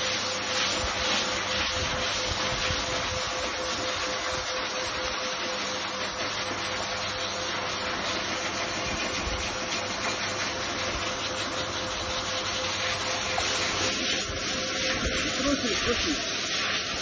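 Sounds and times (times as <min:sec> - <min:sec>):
dog dryer blowing air: 0:00.0 - 0:17.0.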